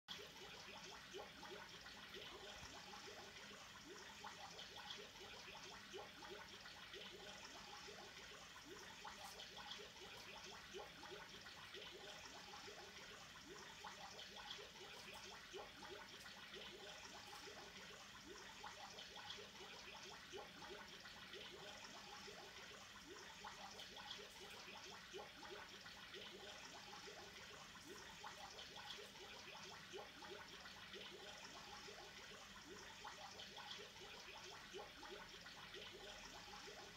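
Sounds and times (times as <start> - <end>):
aquarium water trickling: 0.1 - 36.9
small bubbling gurgles: 0.1 - 36.9.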